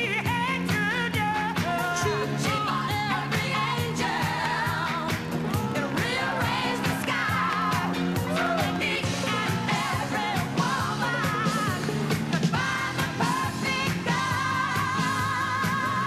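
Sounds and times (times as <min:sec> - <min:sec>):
pop song with dance beat: 0:00.0 - 0:16.0.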